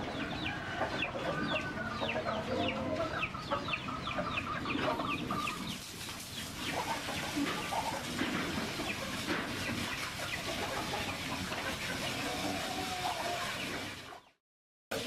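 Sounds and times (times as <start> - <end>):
chickens clucking: 0.0 - 14.4.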